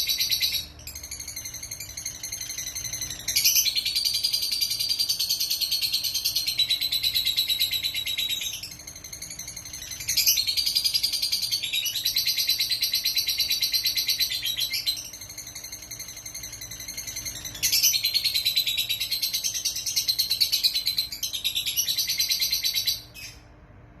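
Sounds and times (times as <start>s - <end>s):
lovebird trilling: 0.0s - 23.4s.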